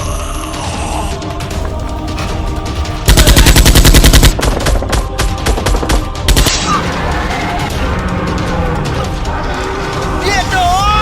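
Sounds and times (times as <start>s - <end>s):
action background music: 0.0s - 11.0s.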